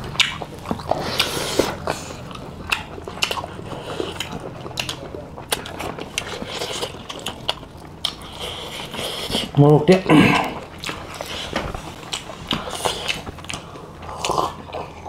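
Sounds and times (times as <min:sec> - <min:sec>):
lip smacks: 0:00.0 - 0:14.9
wet chewing: 0:00.0 - 0:15.0.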